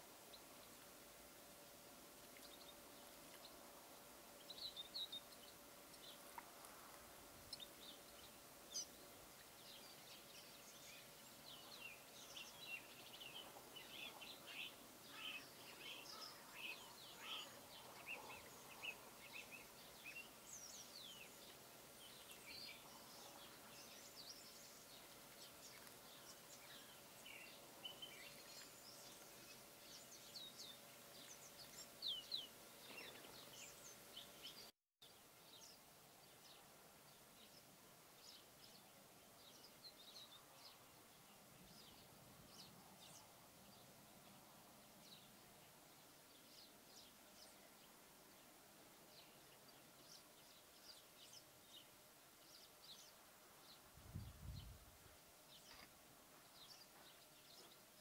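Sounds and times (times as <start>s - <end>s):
faint steady hum: 0.0s - 58.0s
songbirds chirping and twittering: 0.0s - 58.0s.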